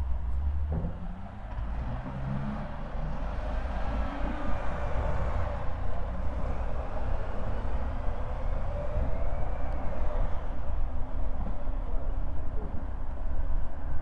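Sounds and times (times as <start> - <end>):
low traffic rumble: 0.0 - 14.0
vehicles passing: 0.0 - 14.0.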